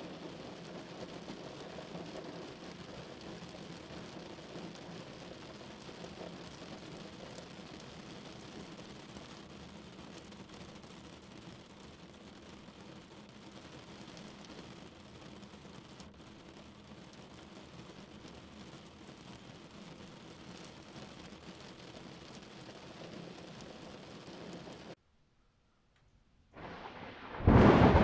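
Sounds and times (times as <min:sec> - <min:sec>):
rain on car roof: 0:00.0 - 0:25.0, 0:26.6 - 0:28.0.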